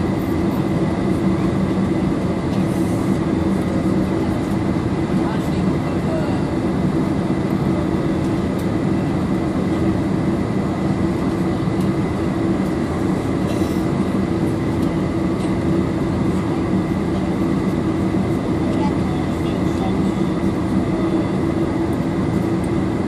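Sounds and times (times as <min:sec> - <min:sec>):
jet engines idling cabin drone: 0:00.0 - 0:23.0.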